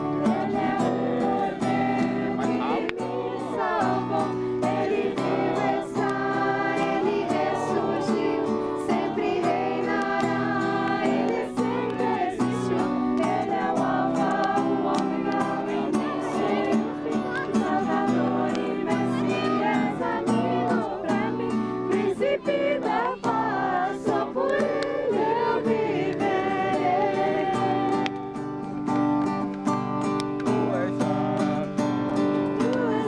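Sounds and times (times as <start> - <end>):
group singing in chorus: 0.0 - 28.8, 30.1 - 33.0
held accompanying notes: 0.0 - 33.0.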